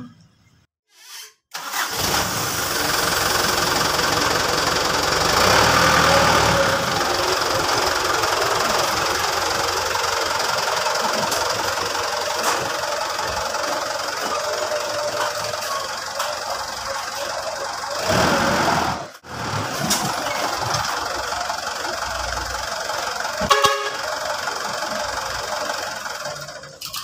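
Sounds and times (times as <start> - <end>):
diesel truck engine idling: 1.6 - 27.0.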